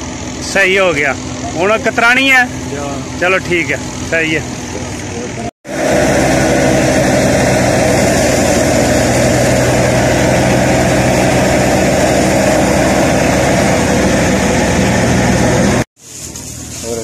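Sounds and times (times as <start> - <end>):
thresher machine drone: 0.0 - 15.9.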